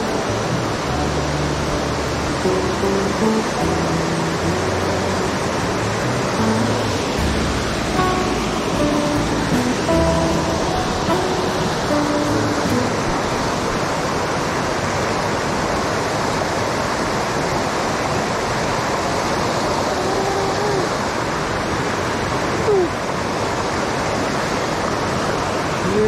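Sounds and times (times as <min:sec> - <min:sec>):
stream rushing over boulders: 0:00.0 - 0:26.0.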